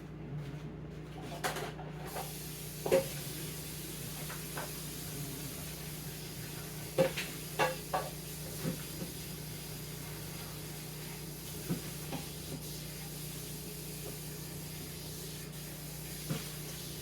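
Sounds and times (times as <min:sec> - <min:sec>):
hiss: 0:02.1 - 0:17.0.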